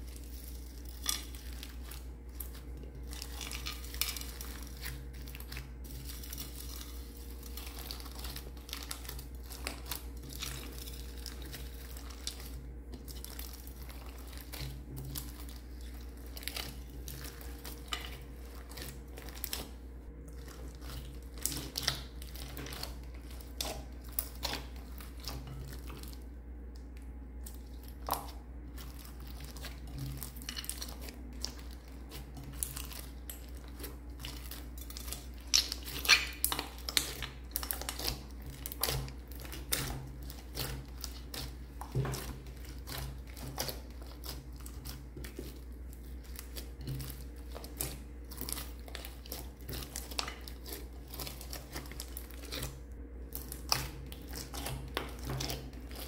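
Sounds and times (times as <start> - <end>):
hands squishing slime: 0.0 - 56.0.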